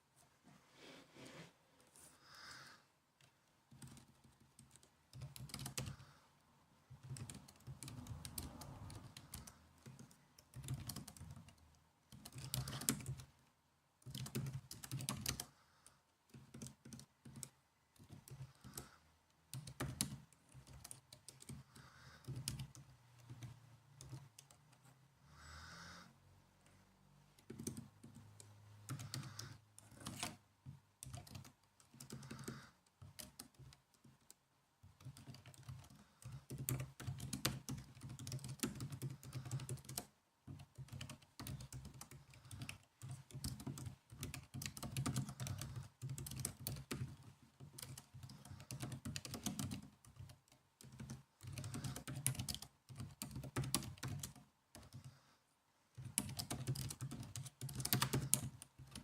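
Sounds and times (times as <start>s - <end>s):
laptop keyboard typing: 3.2s - 6.2s, 6.9s - 25.9s, 26.6s - 55.2s, 55.9s - 59.0s.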